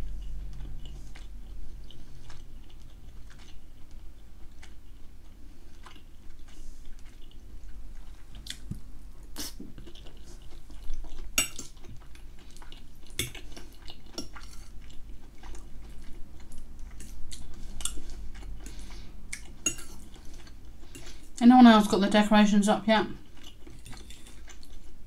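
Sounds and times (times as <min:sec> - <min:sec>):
chewing soft food: 0:00.0 - 0:21.4, 0:23.2 - 0:25.0.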